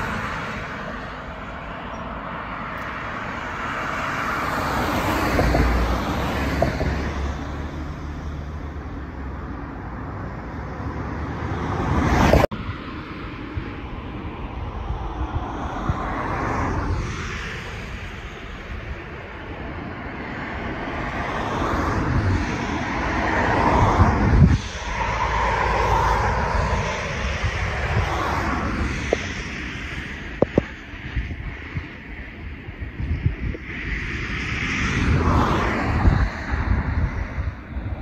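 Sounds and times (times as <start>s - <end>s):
cars passing: 0.0s - 38.0s
wind rumble on microphone: 0.0s - 38.0s.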